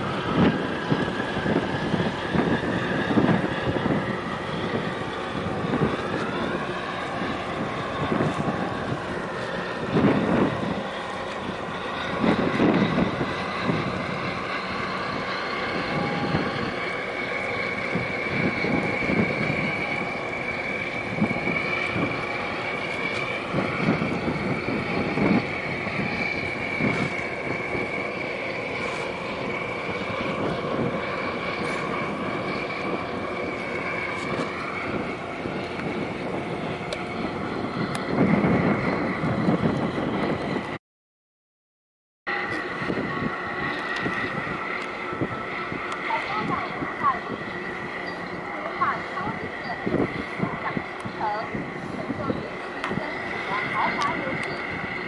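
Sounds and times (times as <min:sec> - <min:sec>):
boat engine whining: 0:00.0 - 0:40.8, 0:42.3 - 0:55.0
wind buffeting microphone: 0:00.0 - 0:40.8, 0:42.3 - 0:55.0.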